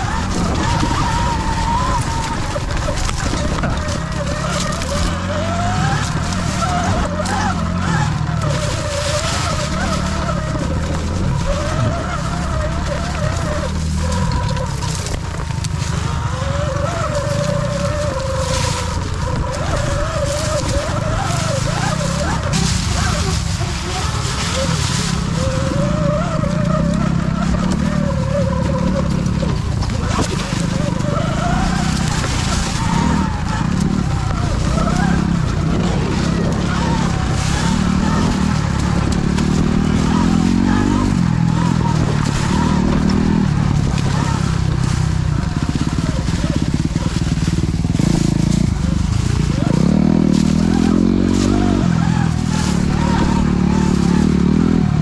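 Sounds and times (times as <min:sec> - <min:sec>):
electric dirt bike motor whining: 0:00.0 - 0:55.0
low rumble of riding: 0:00.0 - 0:55.0.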